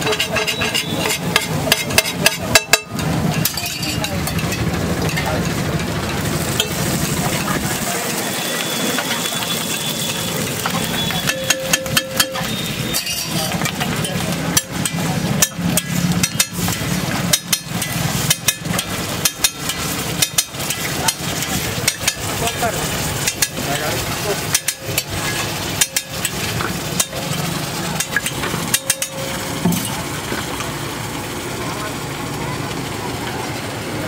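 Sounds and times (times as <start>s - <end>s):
metal spatula scraping griddle: 0.0s - 7.6s, 8.2s - 30.1s.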